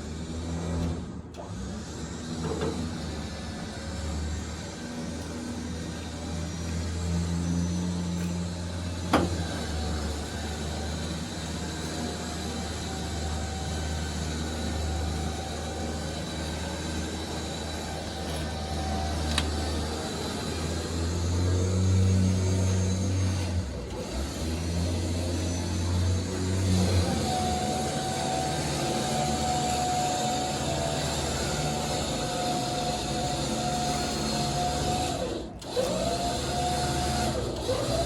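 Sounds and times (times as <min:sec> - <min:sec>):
vehicle engine droning: 0:00.0 - 0:38.0.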